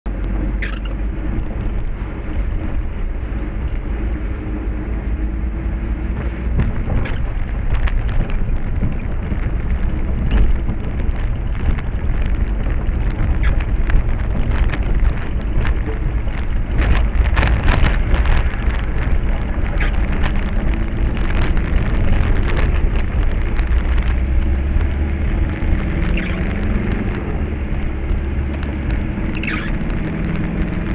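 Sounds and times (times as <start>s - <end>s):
car engine and tyres rumbling: 0.0s - 30.9s.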